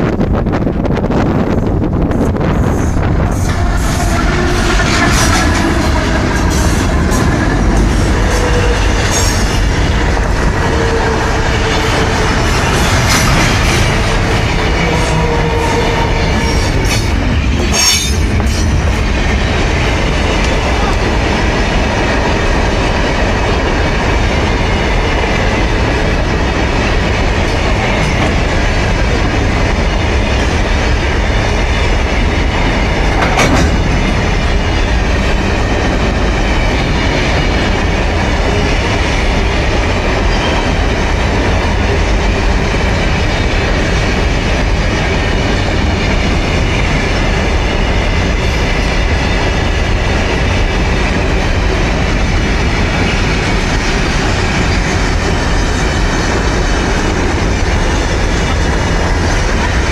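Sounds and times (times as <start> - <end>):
train running: 0.0 - 59.9.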